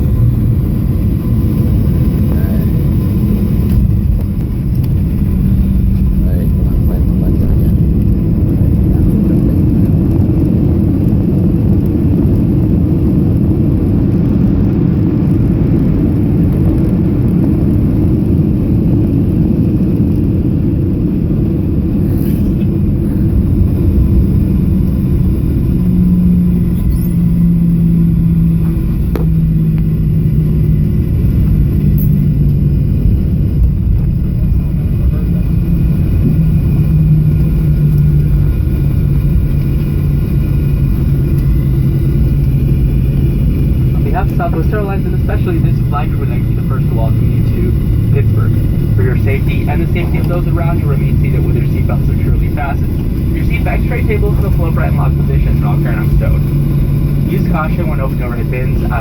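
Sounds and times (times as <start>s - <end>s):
airplane cabin engine rumble: 0.0s - 59.0s
low engine hum: 0.0s - 59.0s.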